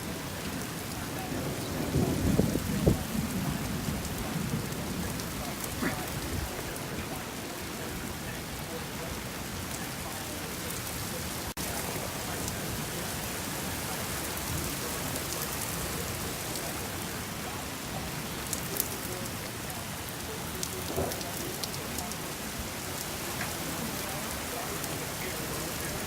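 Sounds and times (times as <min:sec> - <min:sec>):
raindrops ticking on a surface: 0:00.0 - 0:26.0
steady rain falling: 0:00.0 - 0:26.0.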